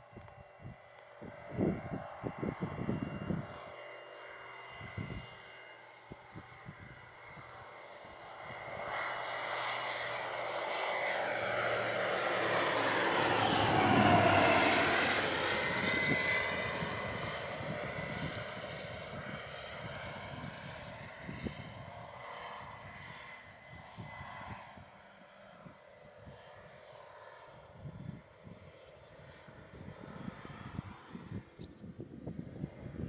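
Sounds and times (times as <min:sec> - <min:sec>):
propeller aircraft flyby: 0:00.0 - 0:33.0.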